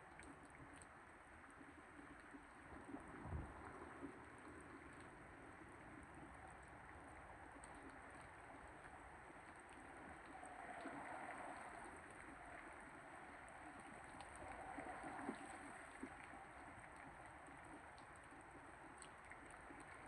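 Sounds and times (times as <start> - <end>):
rain: 0.0 - 20.0
wind: 0.0 - 20.0.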